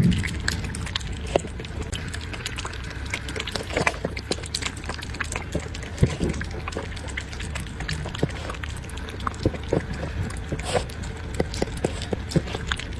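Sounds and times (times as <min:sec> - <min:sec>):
puppy eating from bowl: 0:00.0 - 0:12.9.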